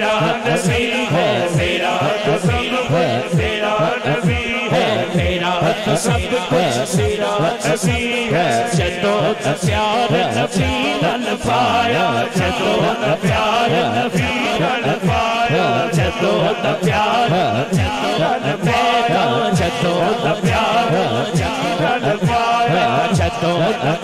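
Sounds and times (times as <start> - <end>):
man singing: 0.0 - 24.0.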